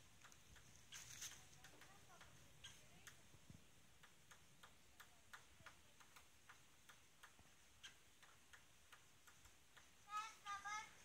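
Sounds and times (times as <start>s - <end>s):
woodpecker tapping on tree: 0.0s - 10.9s.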